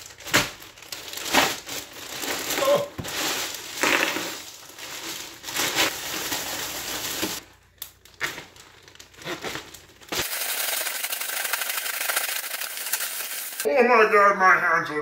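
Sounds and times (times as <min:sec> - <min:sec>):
plastic bag of ice crinkling: 0:00.0 - 0:13.7.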